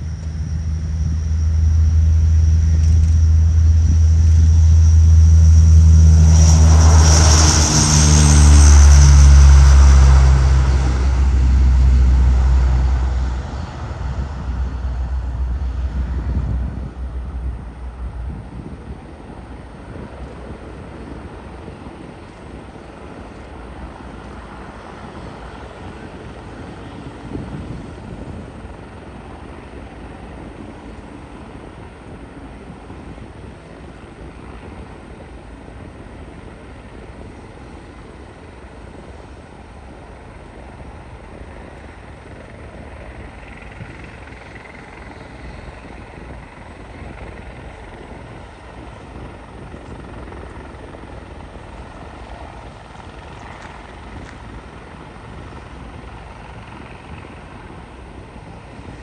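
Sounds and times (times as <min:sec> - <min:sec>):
turboprop engines drone: 0:00.0 - 0:59.0.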